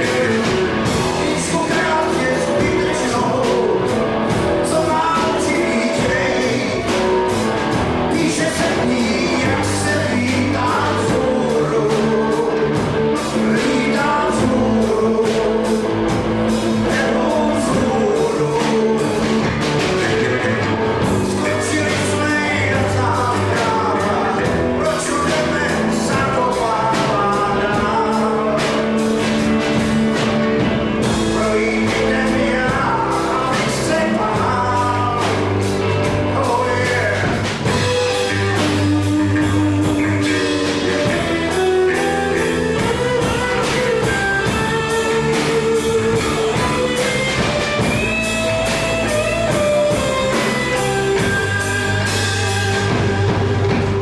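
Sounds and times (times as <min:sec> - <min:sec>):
electric guitar: 0:00.0 - 0:54.0
keyboard: 0:00.0 - 0:54.0
steady drum beat: 0:00.0 - 0:54.0.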